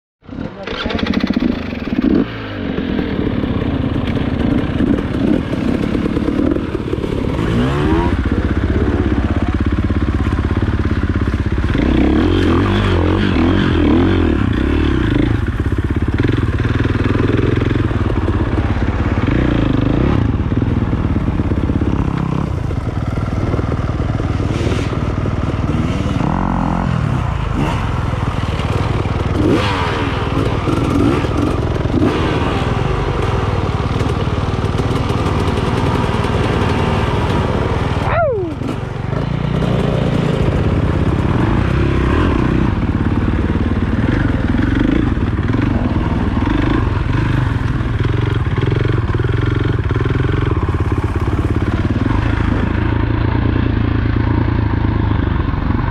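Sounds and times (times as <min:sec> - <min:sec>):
clatter: 0:00.2 - 0:55.9
motorcycle engine revving: 0:00.2 - 0:55.9.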